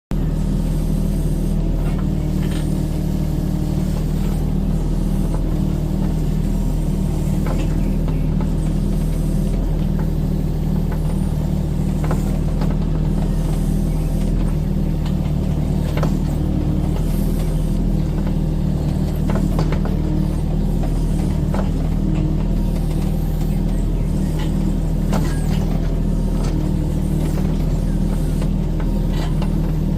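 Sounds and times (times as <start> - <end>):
excavator diesel engine running: 0.1 - 29.9.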